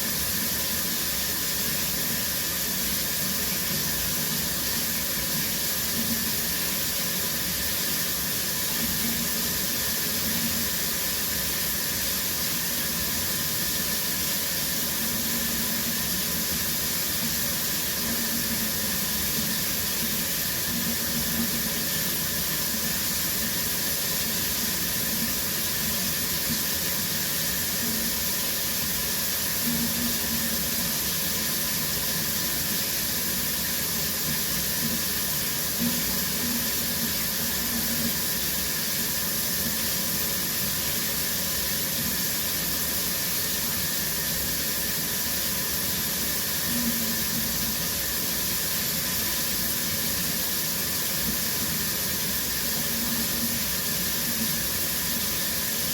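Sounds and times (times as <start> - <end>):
shower water spray: 0.0 - 55.9.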